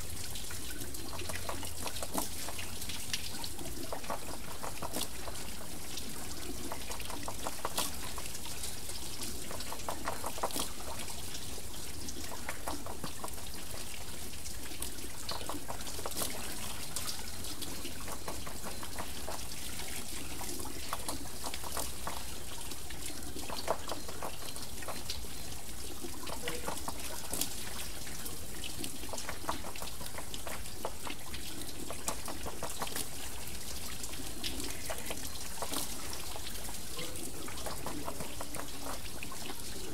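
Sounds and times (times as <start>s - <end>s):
water splashing off water wheel: 0.0s - 39.9s.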